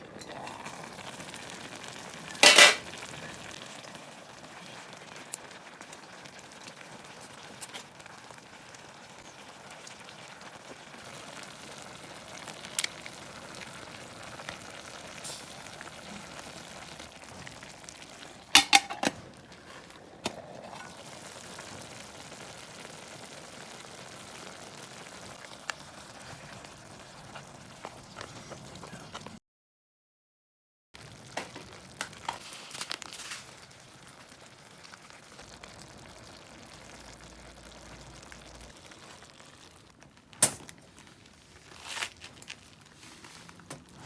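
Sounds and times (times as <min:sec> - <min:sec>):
food simmering and sizzling: 0:00.0 - 0:29.4, 0:31.0 - 0:44.0.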